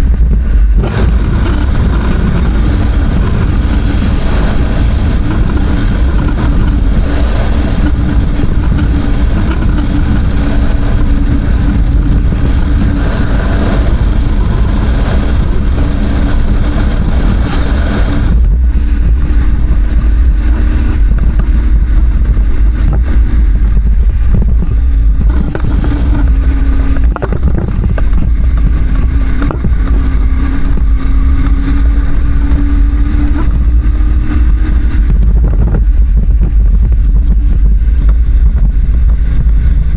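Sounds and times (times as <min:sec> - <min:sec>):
motorcycle engine under throttle: 0:00.0 - 0:39.9
wind rumble on microphone: 0:00.0 - 0:39.9.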